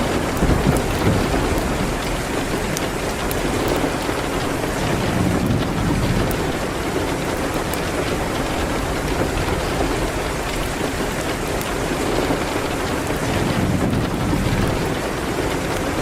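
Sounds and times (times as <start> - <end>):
rain hitting a window: 0.0 - 16.0.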